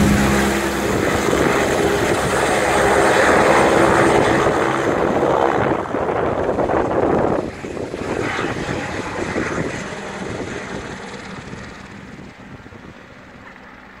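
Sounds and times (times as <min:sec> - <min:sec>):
helicopter rotor noise: 0:00.0 - 0:14.0.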